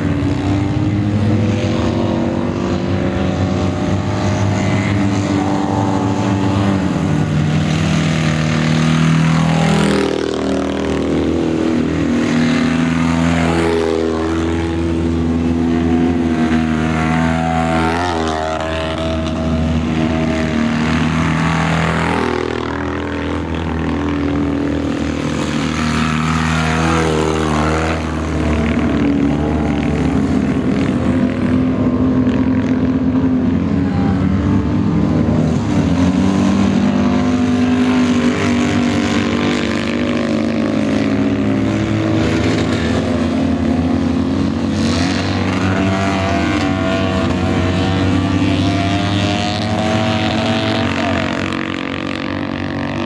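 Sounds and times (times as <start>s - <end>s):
racing car engines revving: 0.0s - 53.0s.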